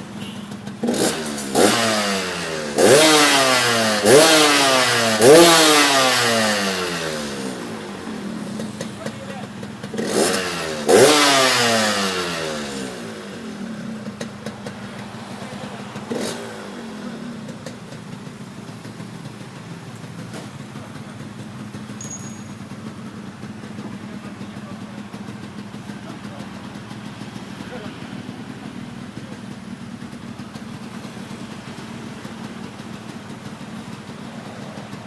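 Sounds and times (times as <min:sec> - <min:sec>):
motorcycle engine revving and idling: 0:00.0 - 0:35.0.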